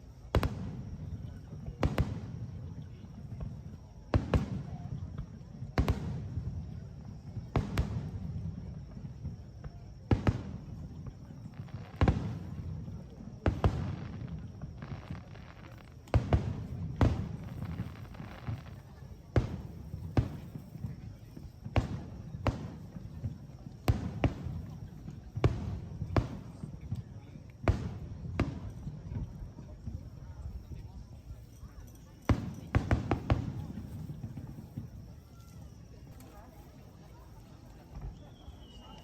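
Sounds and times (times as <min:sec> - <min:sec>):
fireworks bursting with echo: 0:00.0 - 0:30.9, 0:32.2 - 0:39.0.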